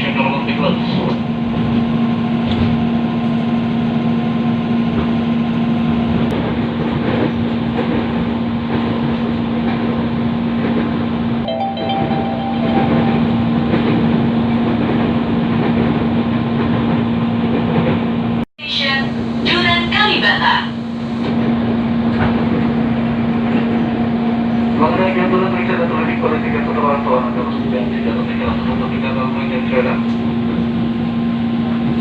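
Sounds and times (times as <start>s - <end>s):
train wheels rumbling on track: 0.0s - 11.4s, 13.6s - 32.0s.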